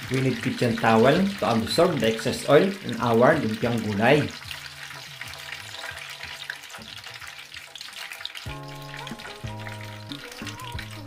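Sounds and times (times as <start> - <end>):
oil sizzling in a frying pan: 0.0 - 11.0
soft background music: 0.0 - 11.0.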